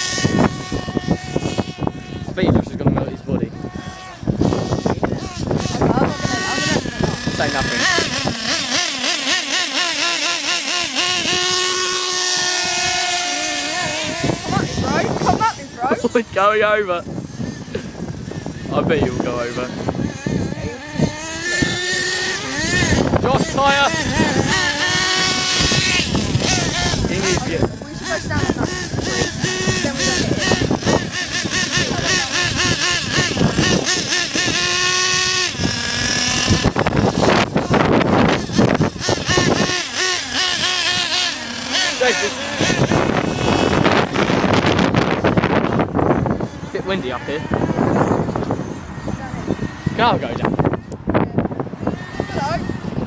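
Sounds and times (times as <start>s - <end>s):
rc car engine screaming: 0.0s - 53.0s.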